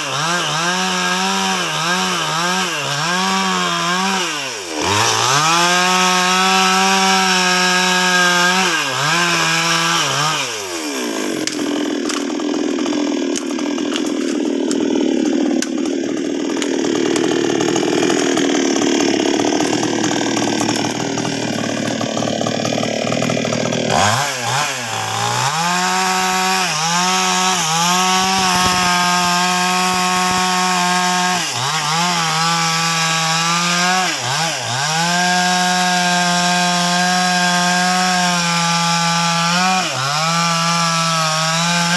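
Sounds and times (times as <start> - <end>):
chainsaw cutting log: 0.0 - 41.9
chainsaw revving: 0.0 - 41.9.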